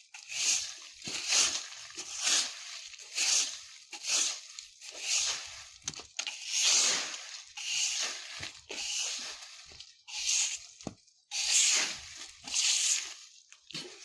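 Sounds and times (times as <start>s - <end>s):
broom sweeping dry leaves: 0.2s - 5.8s, 6.4s - 9.5s, 11.3s - 14.0s.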